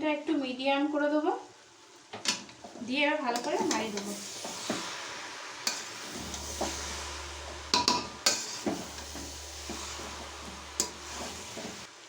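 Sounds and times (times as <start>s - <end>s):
food sizzling in a pan: 0.3s - 12.0s.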